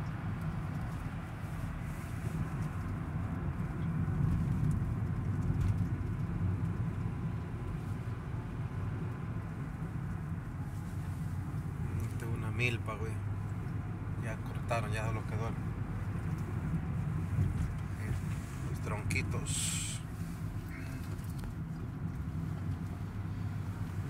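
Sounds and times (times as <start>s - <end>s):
car driving rumble from inside: 0.0s - 24.0s.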